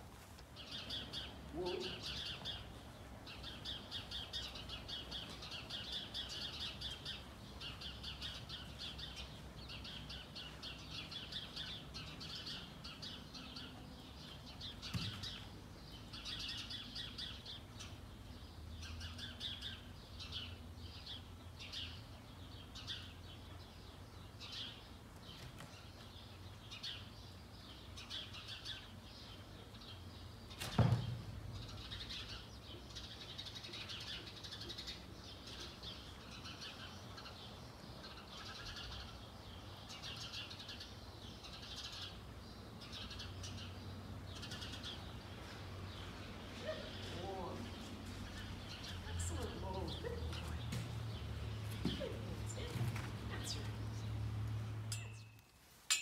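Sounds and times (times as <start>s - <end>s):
small birds chirping: 0.4s - 56.0s.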